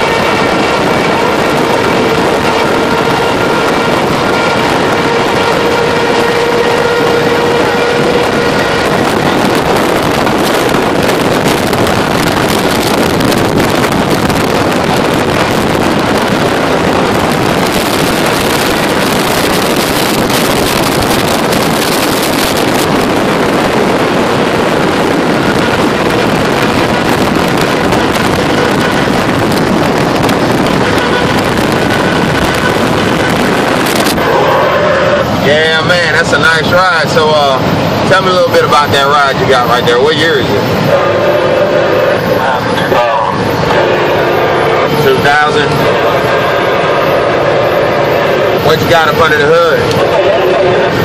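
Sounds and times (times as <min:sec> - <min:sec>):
wind and road noise: 0:00.0 - 0:51.0.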